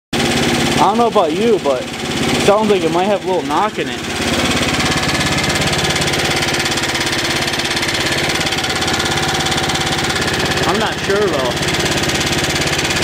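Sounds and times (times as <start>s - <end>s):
engine knocking: 0.2s - 13.0s
small engine running steadily: 0.2s - 13.0s.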